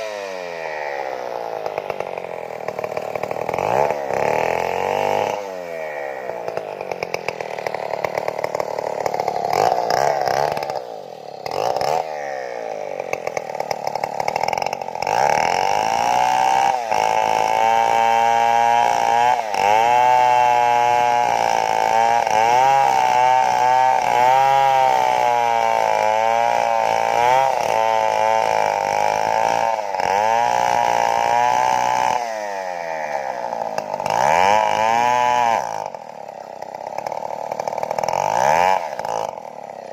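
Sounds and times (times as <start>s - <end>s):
chainsaw cutting tree trunk: 0.0s - 39.9s.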